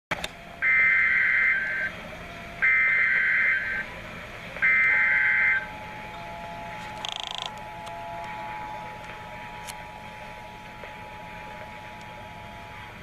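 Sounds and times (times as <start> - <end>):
warbling data tones: 0.5 - 13.0.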